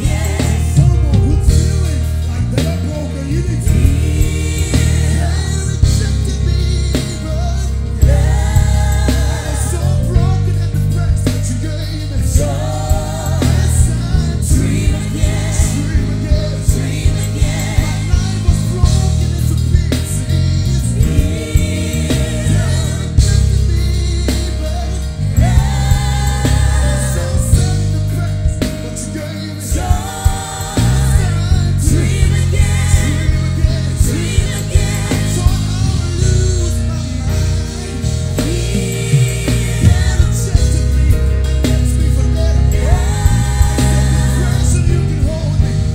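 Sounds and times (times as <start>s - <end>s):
bass guitar: 0.0s - 45.9s
drum kit: 0.0s - 45.9s
people singing: 0.0s - 45.9s.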